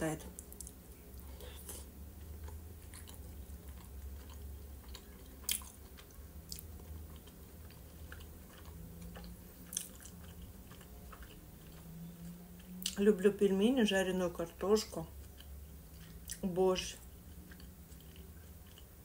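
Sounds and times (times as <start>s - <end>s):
person chewing wetly: 0.4s - 13.0s, 15.1s - 16.4s, 17.0s - 19.0s.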